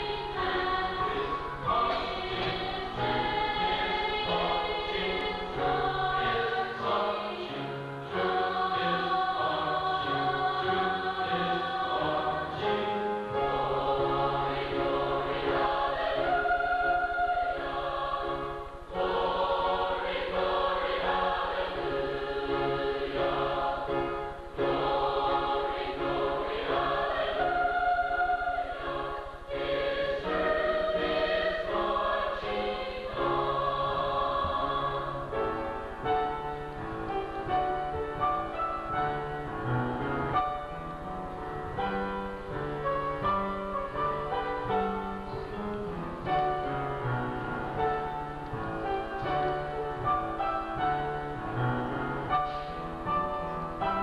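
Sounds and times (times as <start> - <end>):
choir singing in harmony: 0.0 - 54.0
instrumental music: 0.0 - 54.0.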